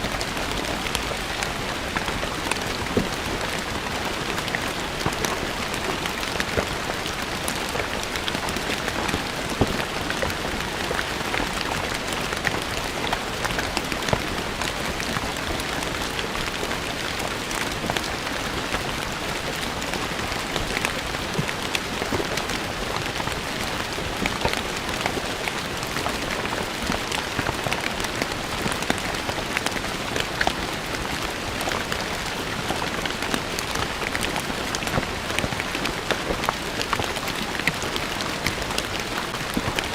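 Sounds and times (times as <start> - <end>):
rain on stone paving: 0.0 - 39.9.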